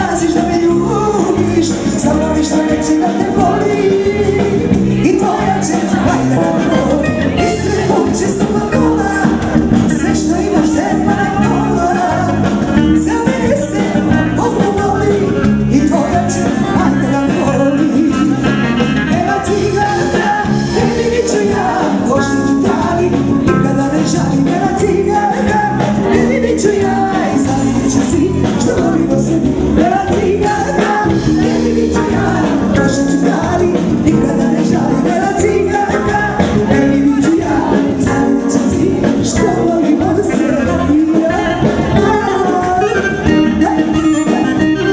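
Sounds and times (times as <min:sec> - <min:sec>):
live band with keyboards: 0:00.0 - 0:44.9.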